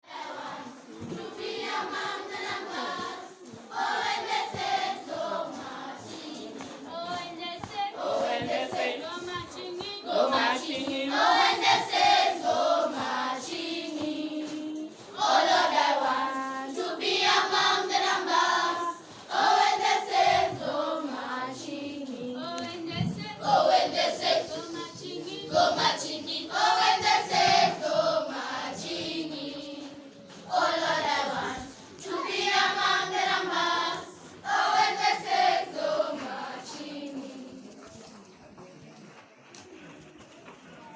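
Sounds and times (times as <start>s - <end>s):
children's choir singing: 0.0s - 37.8s.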